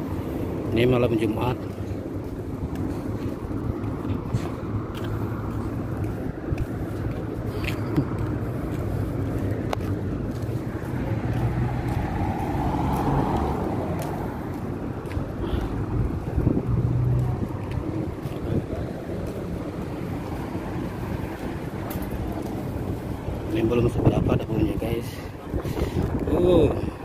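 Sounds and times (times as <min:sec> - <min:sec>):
car engine and tyre noise: 0:00.0 - 0:27.0
wind buffeting microphone: 0:00.0 - 0:27.0.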